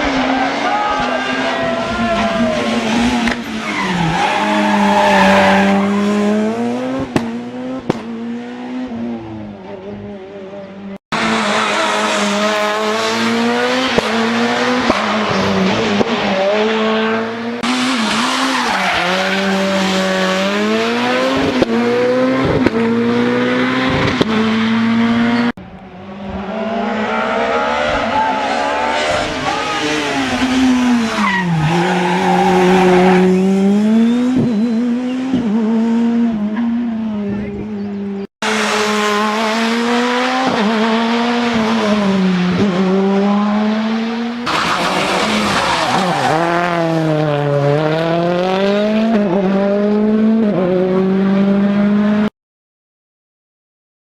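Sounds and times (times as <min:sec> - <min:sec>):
rally car engines revving: 0:00.0 - 0:52.3.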